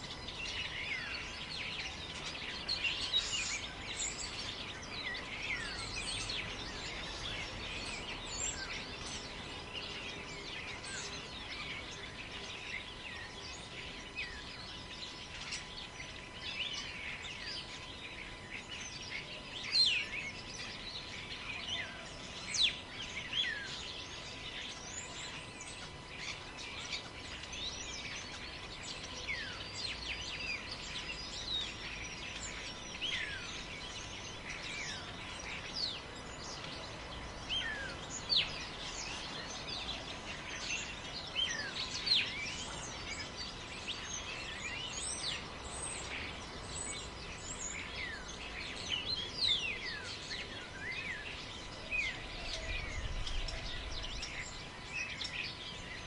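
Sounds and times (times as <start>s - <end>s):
birds whistling and chirping: 0.0s - 56.0s
faint steady background noise: 0.0s - 56.0s.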